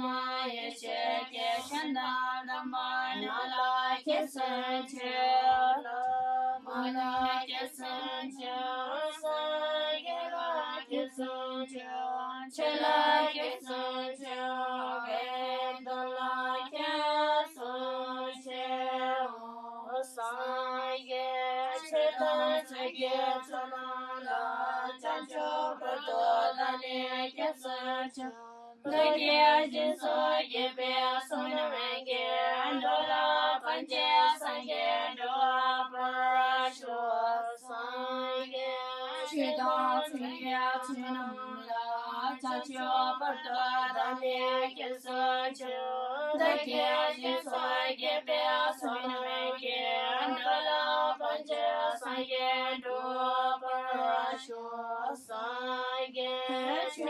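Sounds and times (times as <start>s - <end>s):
female voices chanting prayer: 0.0s - 57.0s.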